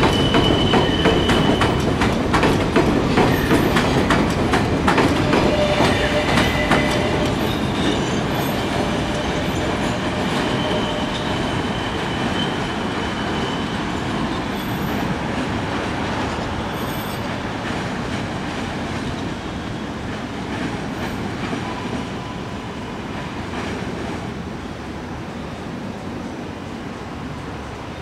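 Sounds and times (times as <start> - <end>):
train wheels rumbling: 0.0 - 24.9.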